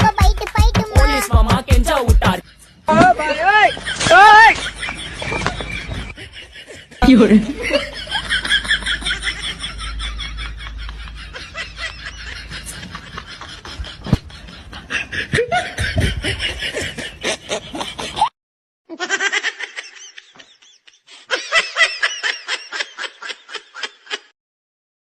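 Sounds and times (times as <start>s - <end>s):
laughter in bursts: 2.3s - 18.3s, 18.9s - 24.4s.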